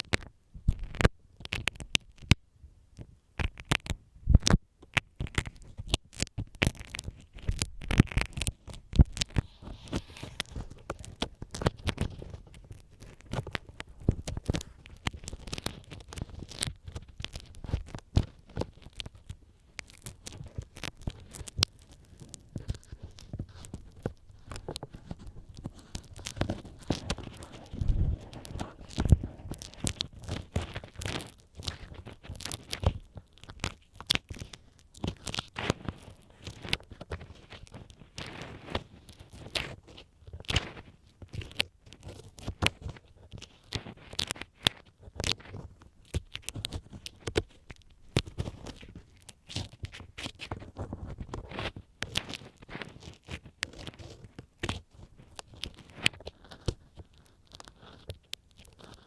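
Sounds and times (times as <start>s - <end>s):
ear pick scratching microphone: 3.4s - 59.0s.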